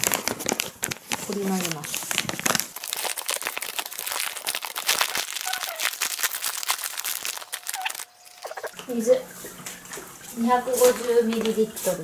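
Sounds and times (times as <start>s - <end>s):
stiff paper crinkling: 0.0s - 12.0s.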